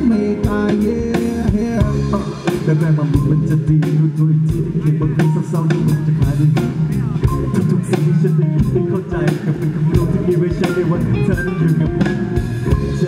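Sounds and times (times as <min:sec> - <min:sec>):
bass guitar low note: 0:00.0 - 0:13.0
drum kit beat: 0:00.0 - 0:13.0
electric guitars: 0:00.0 - 0:13.0.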